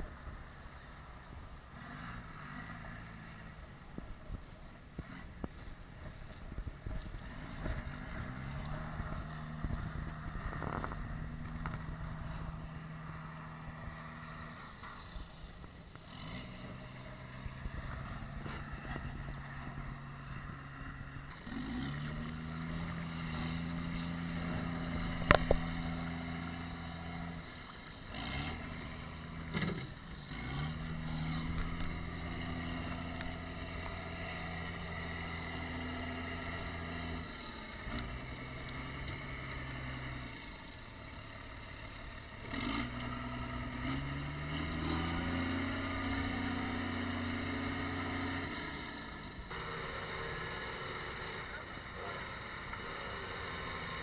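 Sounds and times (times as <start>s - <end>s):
tractor engine revving under load: 7.3s - 15.0s, 16.1s - 54.0s.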